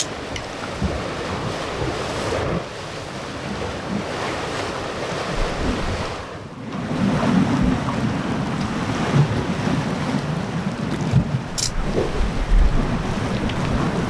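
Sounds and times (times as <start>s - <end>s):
waves washing on rocky shore: 0.0s - 14.0s
wind rumbling on microphone: 0.0s - 14.0s.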